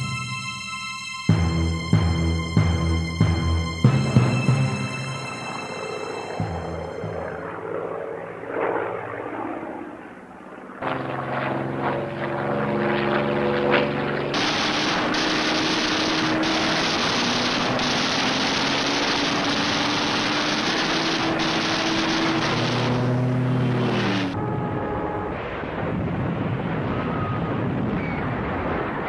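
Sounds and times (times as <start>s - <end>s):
propeller aircraft engine drone: 0.0s - 29.0s
loud dense engine rush: 1.3s - 29.0s.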